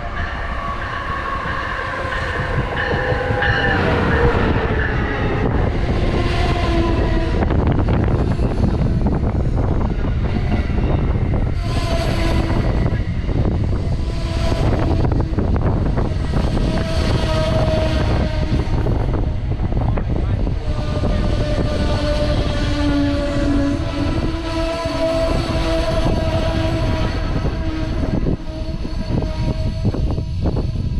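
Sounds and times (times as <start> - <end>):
train rumbling past: 0.0 - 30.9.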